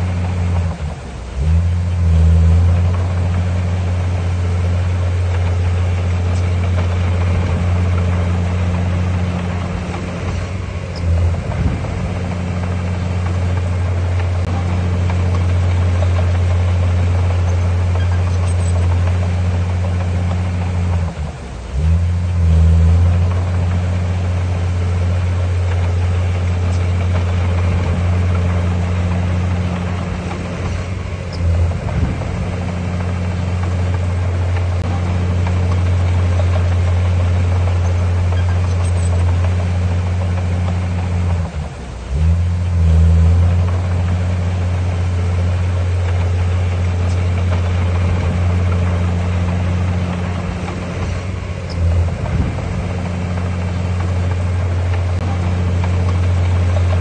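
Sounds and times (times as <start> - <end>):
heavy diesel engine revving: 0.0 - 57.0.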